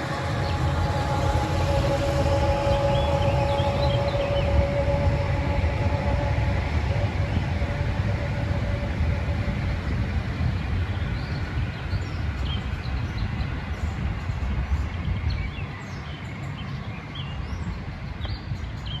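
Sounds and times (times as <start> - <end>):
diesel train rumbling past: 0.0 - 18.9.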